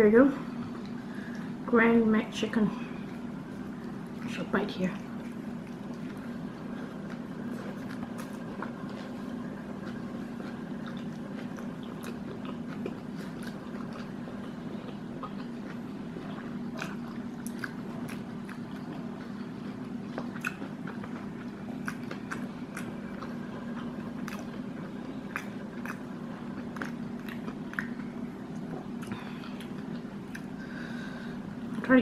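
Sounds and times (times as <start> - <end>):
person chewing food: 5.0 - 31.8.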